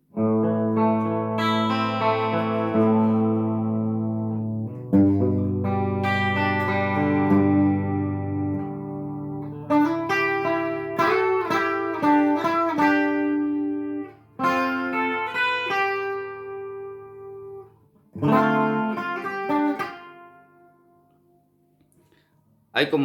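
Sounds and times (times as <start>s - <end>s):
clean electric guitar with chorus: 0.0s - 22.2s.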